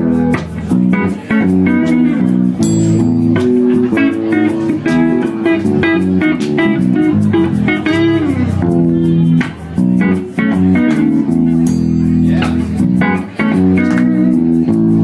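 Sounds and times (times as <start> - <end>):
electric bass line: 0.0 - 15.0
electric guitar: 0.0 - 15.0.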